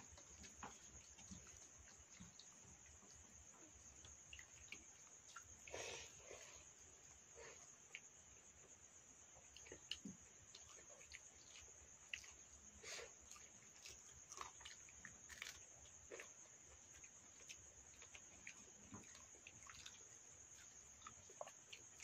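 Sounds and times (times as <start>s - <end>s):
chewing and eating smacks: 0.0s - 8.7s, 9.3s - 22.0s
high-pitched insect trill: 0.0s - 22.0s.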